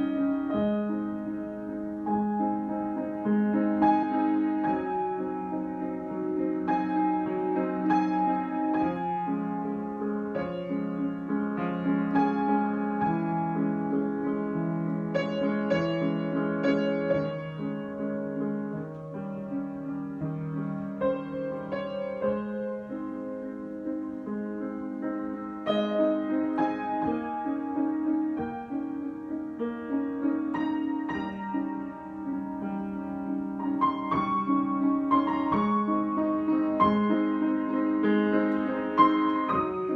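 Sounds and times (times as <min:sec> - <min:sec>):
solo piano: 0:00.0 - 0:39.9.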